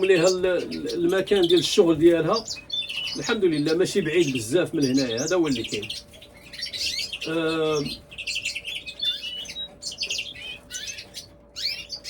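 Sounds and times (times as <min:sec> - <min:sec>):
cage birds chirping: 0:00.0 - 0:12.0.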